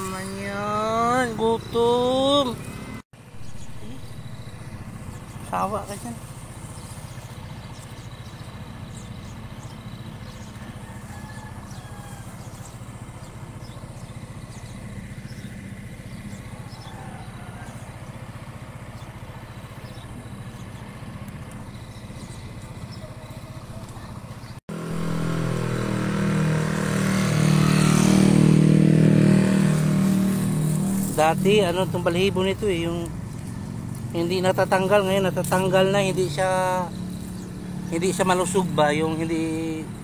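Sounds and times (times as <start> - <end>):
engine humming: 0.0 - 40.0
loud engine running close by: 0.0 - 40.0.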